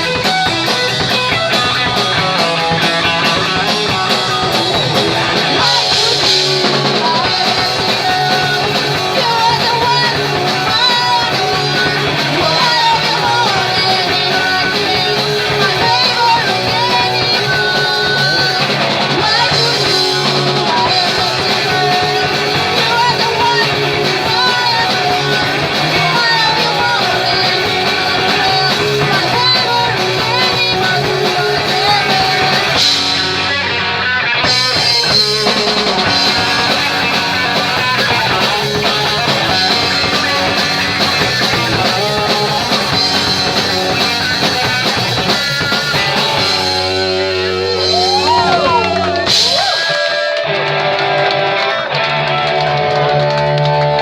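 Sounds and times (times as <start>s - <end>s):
electric guitars: 0.0s - 54.0s
person singing: 3.0s - 33.8s, 34.4s - 45.2s, 45.9s - 50.5s.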